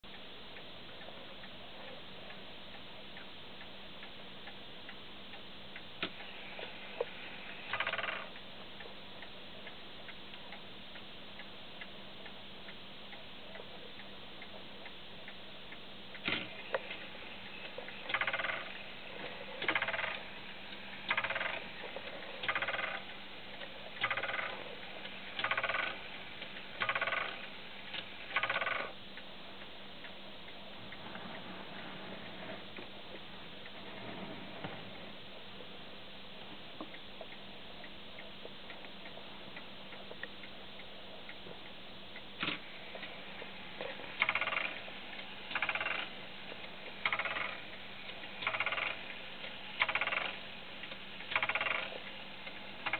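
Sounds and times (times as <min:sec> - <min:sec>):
clock ticking: 0:00.0 - 0:31.5, 0:35.4 - 0:52.9.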